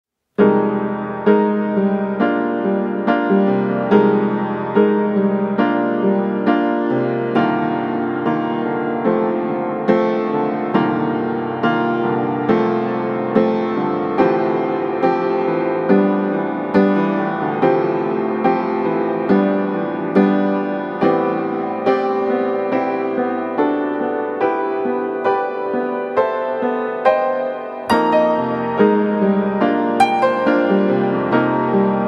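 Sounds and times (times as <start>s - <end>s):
slow piano chords: 0.4s - 32.0s.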